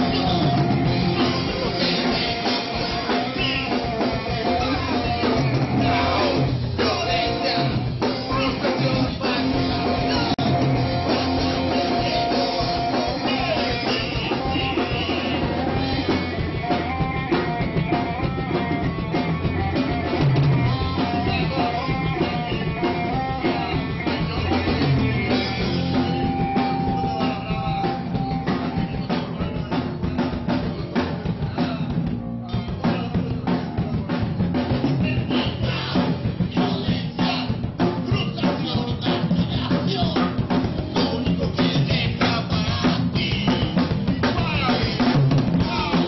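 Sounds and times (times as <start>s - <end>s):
man singing: 0.0s - 46.0s
rock band playing live: 0.0s - 46.0s.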